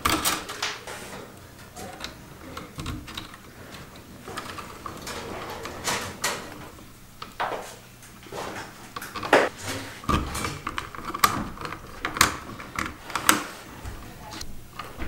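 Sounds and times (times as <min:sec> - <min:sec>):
wire clicks and scrapes: 0:00.0 - 0:15.0.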